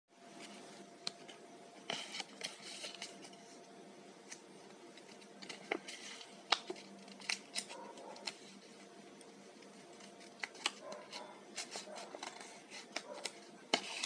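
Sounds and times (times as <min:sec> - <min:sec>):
faint steady hum: 0:00.1 - 0:14.0
paper rustling and crinkling: 0:01.2 - 0:03.6, 0:04.3 - 0:08.9, 0:09.7 - 0:14.0.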